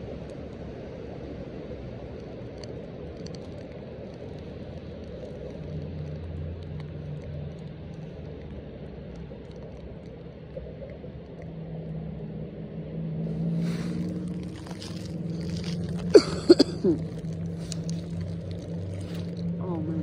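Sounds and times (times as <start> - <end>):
distant engine droning: 0.0 - 20.0.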